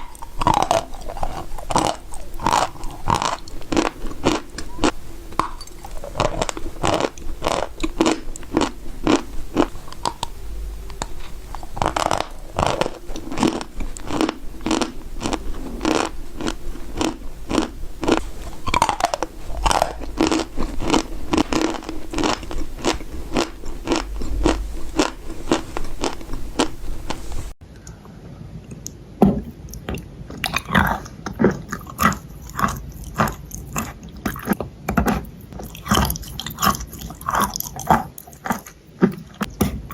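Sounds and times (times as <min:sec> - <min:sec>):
crunching and chewing: 0:00.0 - 0:27.5, 0:29.5 - 0:39.9.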